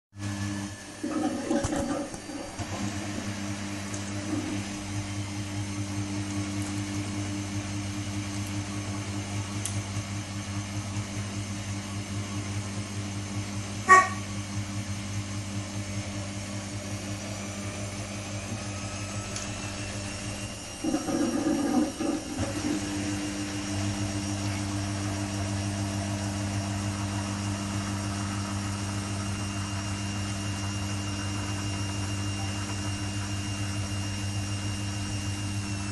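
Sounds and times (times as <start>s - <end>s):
washing machine humming: 0.2s - 35.9s.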